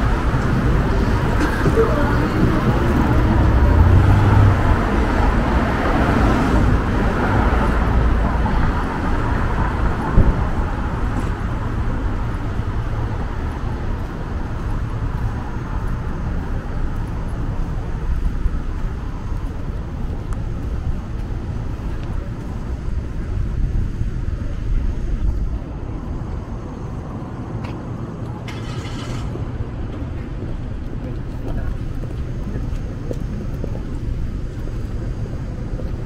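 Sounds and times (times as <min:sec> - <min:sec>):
cars passing: 0:00.0 - 0:36.0
low hum of traffic: 0:00.0 - 0:36.0.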